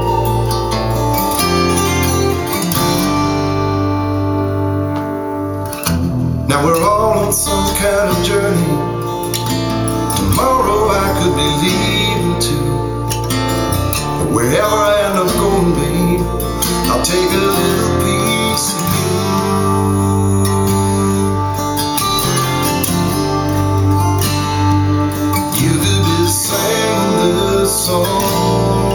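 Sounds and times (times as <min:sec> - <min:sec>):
guitar-led instrumental music: 0:00.0 - 0:28.9.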